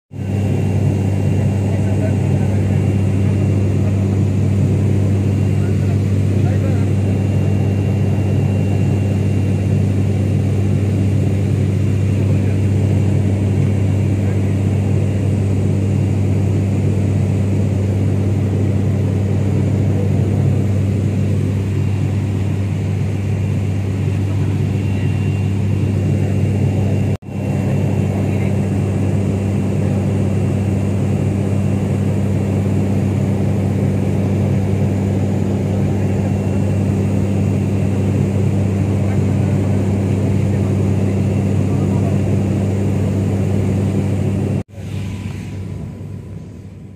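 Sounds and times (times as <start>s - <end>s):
turboprop engine drone in cabin: 0.1s - 46.9s.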